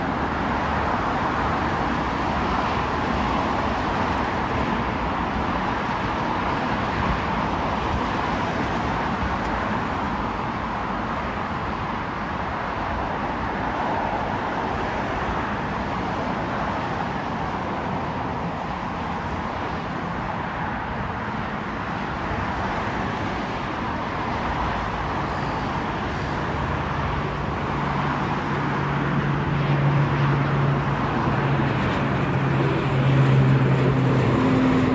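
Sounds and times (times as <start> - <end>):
distant airliner engines rumbling: 0.0 - 34.9.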